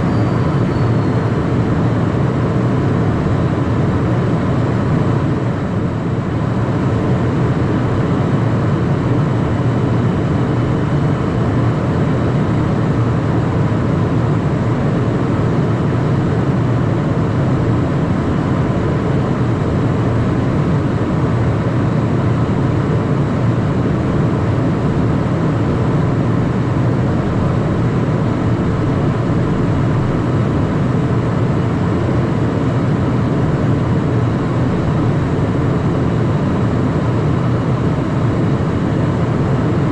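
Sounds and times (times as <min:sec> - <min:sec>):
jet engines and airflow rush: 0:00.0 - 0:39.9.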